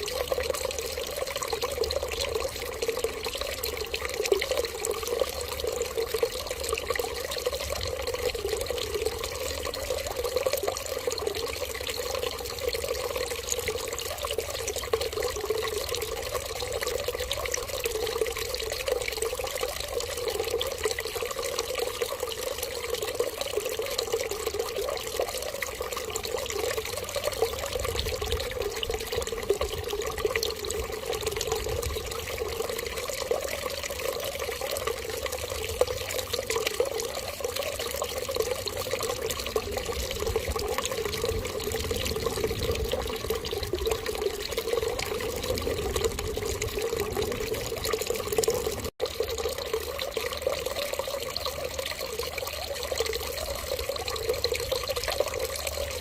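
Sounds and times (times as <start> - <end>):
water running and splashing: 0.0 - 56.0.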